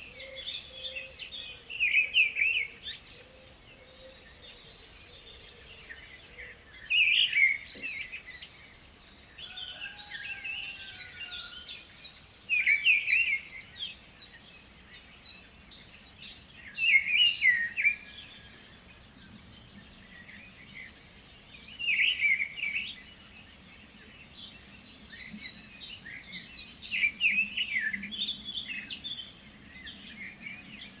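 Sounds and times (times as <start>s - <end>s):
songbird warbling song: 0.0s - 31.0s.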